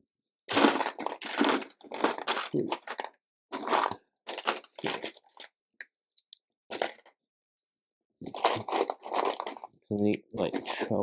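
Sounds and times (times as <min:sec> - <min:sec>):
plastic bricks clattering: 0:00.5 - 0:07.2, 0:08.2 - 0:11.0.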